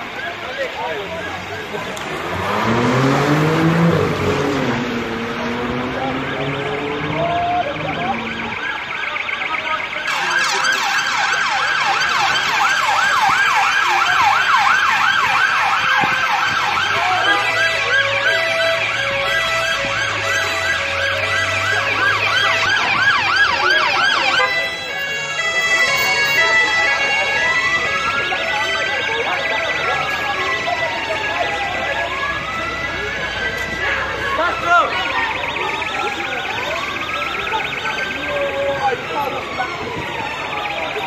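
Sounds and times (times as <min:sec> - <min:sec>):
police siren yelp: 0:00.0 - 0:41.0
steady siren tones: 0:00.0 - 0:41.0.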